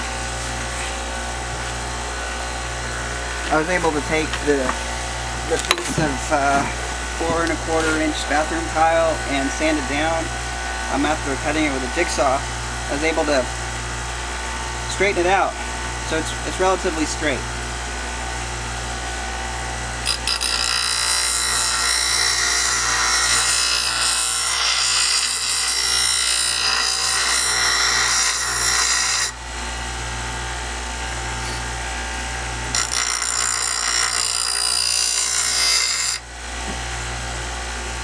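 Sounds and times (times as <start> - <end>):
bench grinder motor hum: 0.0 - 38.0.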